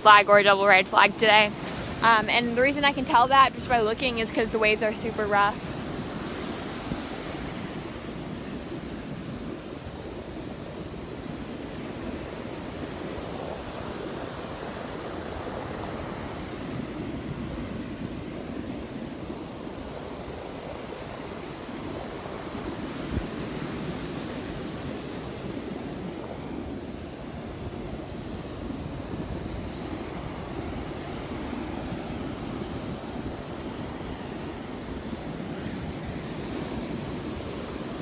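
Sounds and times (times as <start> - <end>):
surf breaking on beach: 0.0 - 38.0.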